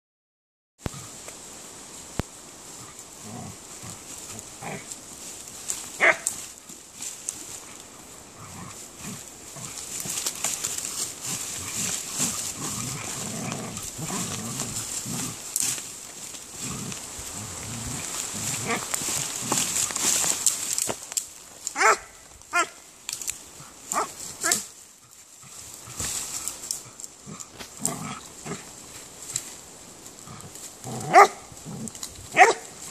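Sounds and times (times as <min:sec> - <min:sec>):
leaves and twigs rustling: 0:00.8 - 0:32.9.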